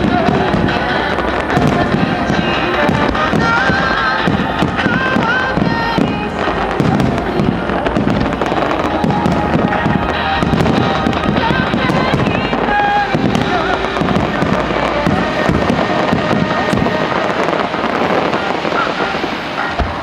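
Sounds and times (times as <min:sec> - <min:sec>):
fireworks booming and crackling: 0:00.0 - 0:20.0
music: 0:00.0 - 0:20.0.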